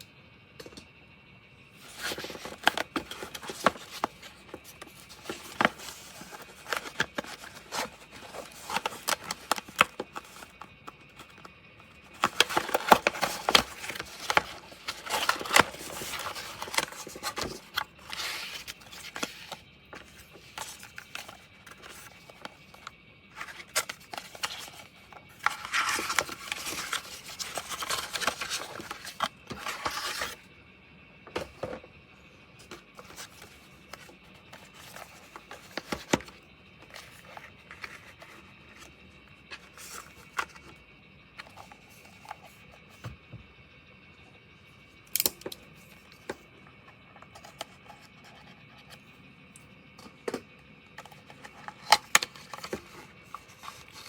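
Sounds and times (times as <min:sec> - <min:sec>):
objects scraping and rustling: 0:01.8 - 0:30.5, 0:32.6 - 0:40.8, 0:41.4 - 0:43.2, 0:47.1 - 0:49.2, 0:51.0 - 0:54.0.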